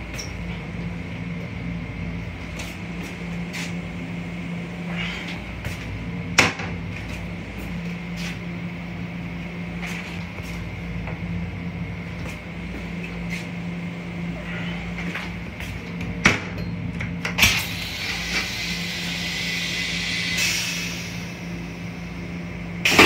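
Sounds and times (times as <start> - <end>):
train hum and rumble: 0.0 - 23.0.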